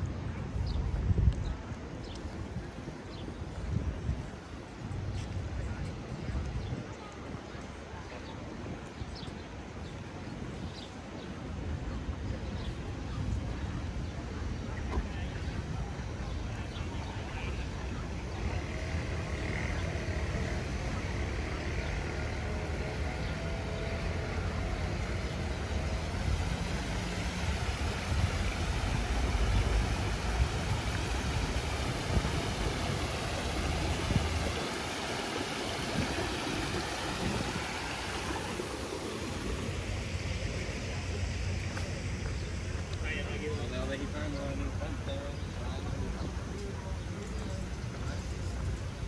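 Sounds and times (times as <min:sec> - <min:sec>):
fountain water spilling: 0:00.0 - 0:49.0
low traffic rumble: 0:00.0 - 0:49.0.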